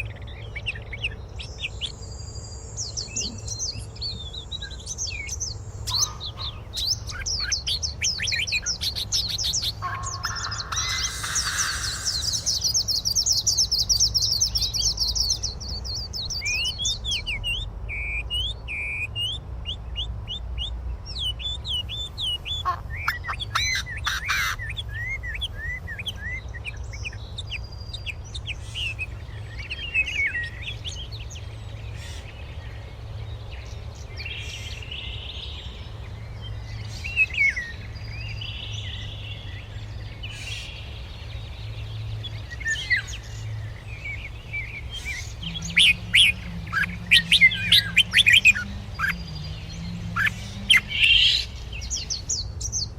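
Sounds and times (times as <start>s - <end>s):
birds chirping and singing: 0.0s - 52.9s.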